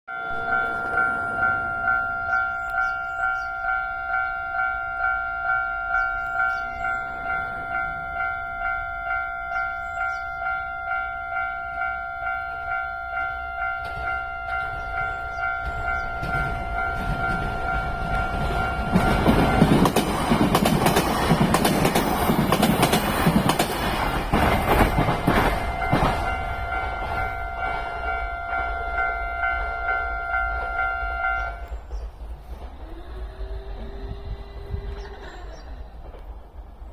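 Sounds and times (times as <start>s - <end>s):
level-crossing warning bell: 0.1s - 34.9s
train passing: 0.1s - 36.9s.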